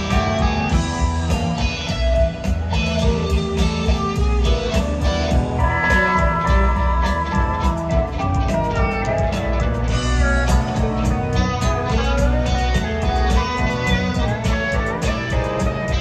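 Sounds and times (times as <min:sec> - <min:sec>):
drums: 0:00.0 - 0:16.0
electric guitar: 0:00.0 - 0:16.0
keyboards: 0:00.0 - 0:16.0
upright bass: 0:00.0 - 0:16.0.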